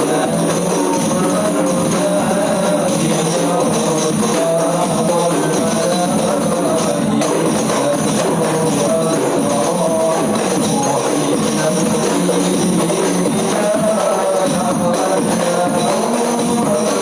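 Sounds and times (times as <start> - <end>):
frame drum ensemble playing: 0.0 - 17.0.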